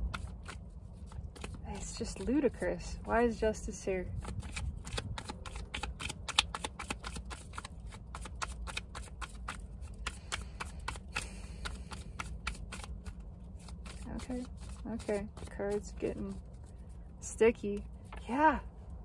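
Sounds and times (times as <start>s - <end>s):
cards being shuffled: 0.0s - 2.5s, 4.2s - 17.1s.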